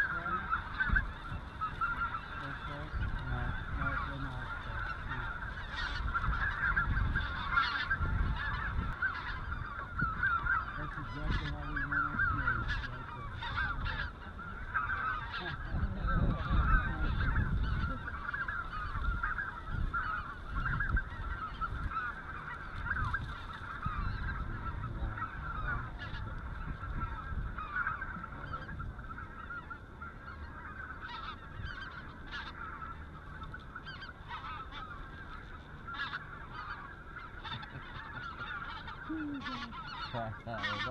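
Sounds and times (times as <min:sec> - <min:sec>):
geese honking: 0:00.0 - 0:40.9
wind rumbling on microphone: 0:00.0 - 0:40.9.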